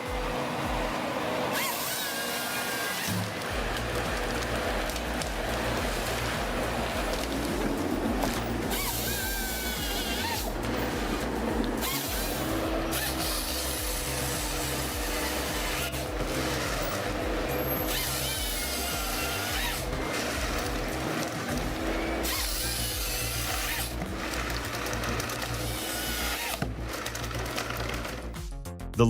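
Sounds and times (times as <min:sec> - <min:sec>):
power tool noise: 0:00.0 - 0:28.4
background music: 0:00.0 - 0:29.0.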